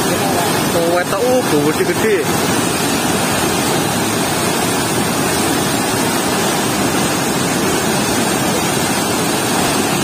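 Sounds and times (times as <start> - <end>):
water rushing through sluice gate: 0.0 - 10.0.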